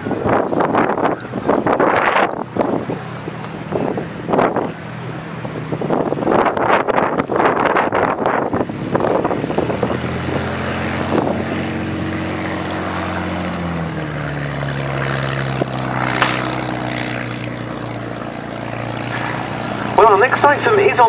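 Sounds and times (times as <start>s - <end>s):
aircraft piston engine droning: 0.0s - 21.0s.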